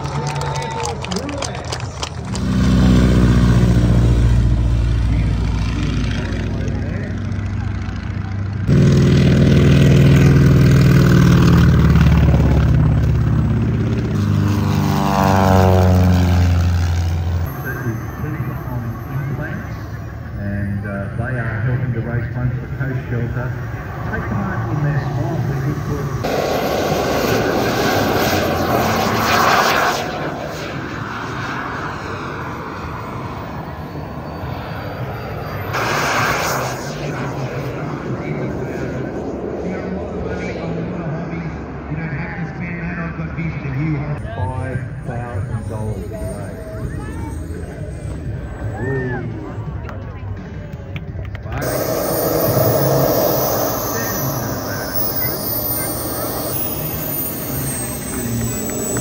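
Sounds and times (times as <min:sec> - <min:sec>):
propeller aircraft flying past: 0:00.0 - 0:59.0.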